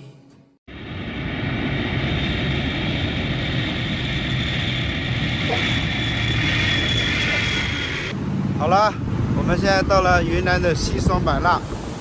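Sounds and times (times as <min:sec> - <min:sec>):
jet engine roar in cabin: 0:00.7 - 0:12.0.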